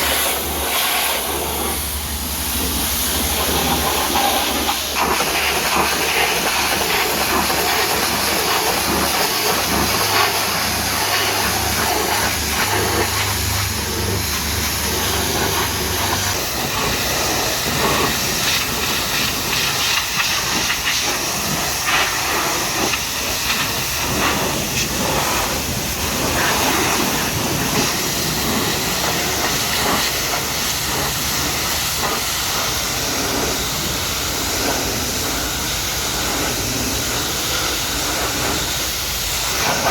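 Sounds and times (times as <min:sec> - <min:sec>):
pressure washer spraying: 0:00.0 - 0:39.9.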